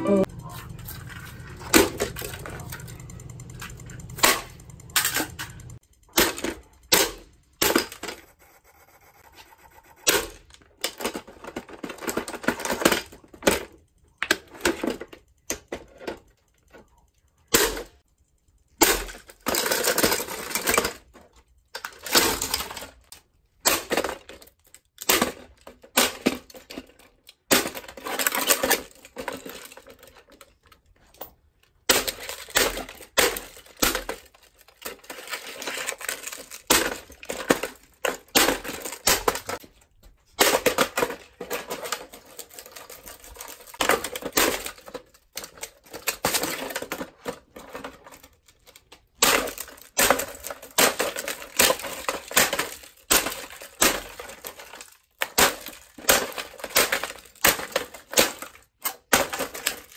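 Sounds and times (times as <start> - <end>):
plastic toy being smashed: 0.1 - 8.2, 10.1 - 16.3, 17.5 - 18.0, 18.8 - 31.1, 31.7 - 59.9.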